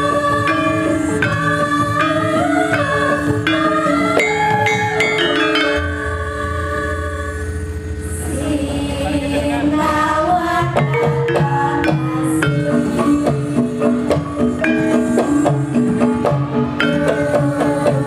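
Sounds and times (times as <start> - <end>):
drum strokes: 0.0 - 6.8, 7.6 - 18.0
metallophones struck with mallets: 0.0 - 18.0.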